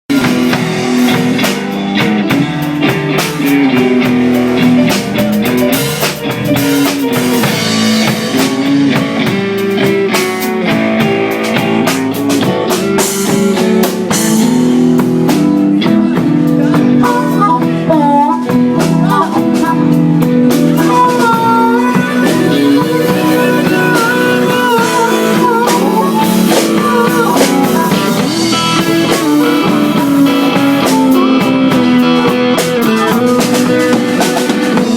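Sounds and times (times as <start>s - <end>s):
drums: 0.0s - 34.9s
guitar: 0.0s - 34.9s.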